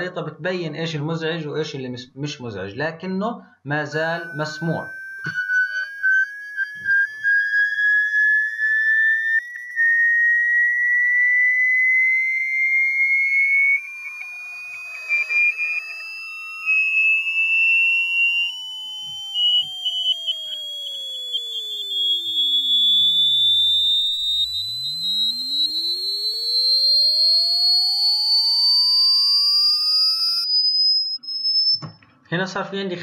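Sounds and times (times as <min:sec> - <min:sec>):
rising sine-wave test tone: 0:03.9 - 0:32.0.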